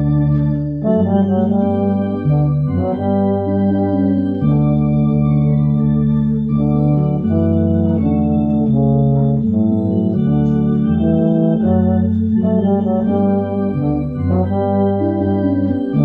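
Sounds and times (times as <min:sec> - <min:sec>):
euphonium playing a hymn: 0:00.0 - 0:16.0
organ playing a hymn: 0:00.0 - 0:16.0.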